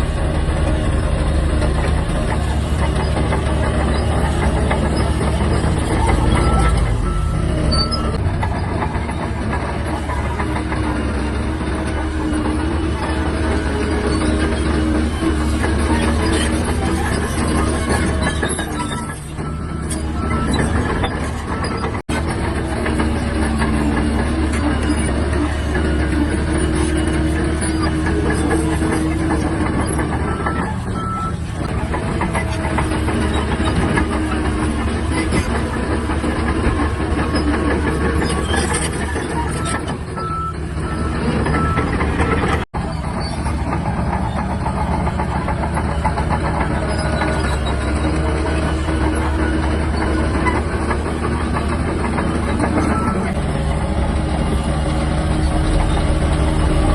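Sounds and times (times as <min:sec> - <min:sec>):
diesel engine under load: 0:00.0 - 0:56.9
steel tracks clattering: 0:00.0 - 0:56.9.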